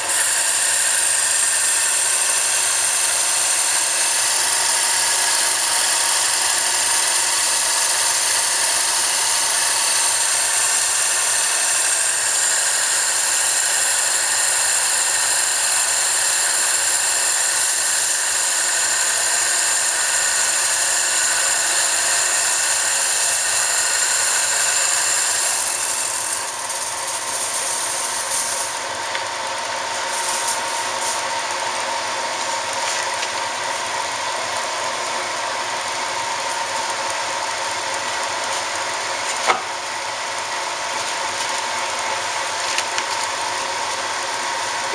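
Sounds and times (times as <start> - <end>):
lathe cutting metal hiss: 0.0 - 44.9
lathe spindle running freely: 0.0 - 44.9.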